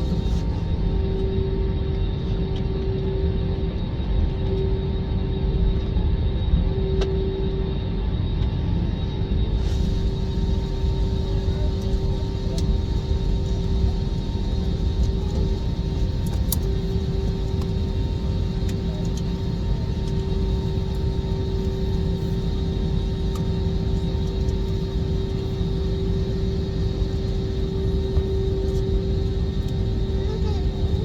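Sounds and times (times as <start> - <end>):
jet airliner engine rumble: 0.0 - 31.0.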